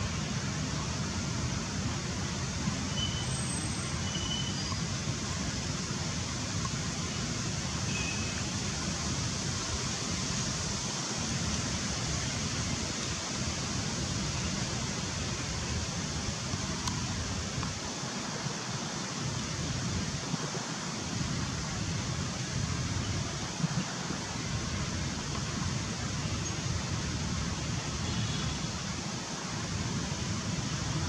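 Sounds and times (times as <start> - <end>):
steady rushing outdoor noise: 0.0 - 31.0.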